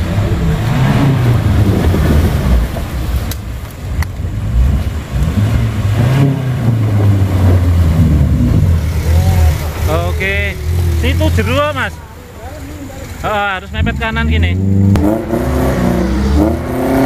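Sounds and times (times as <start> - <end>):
engine revving: 0.0 - 3.4, 4.0 - 12.0, 12.6 - 17.0.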